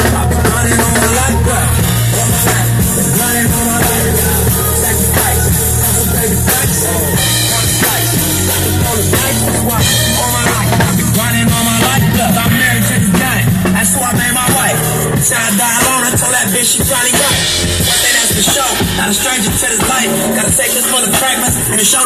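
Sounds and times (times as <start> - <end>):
drum kit playing: 0.0 - 22.0
recorded song over loudspeakers: 0.0 - 22.0.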